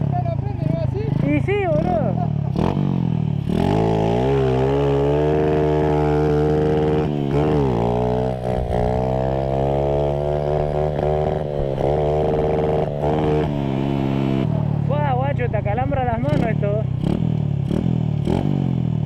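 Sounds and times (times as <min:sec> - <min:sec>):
small motorcycle engine revving: 0:00.0 - 0:14.9, 0:16.2 - 0:19.0.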